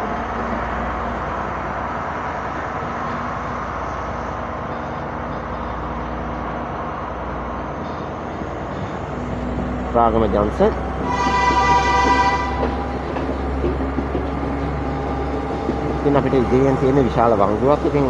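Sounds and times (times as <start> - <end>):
diesel engine drone: 0.0 - 18.0
train wheel and rail noise: 0.0 - 18.0.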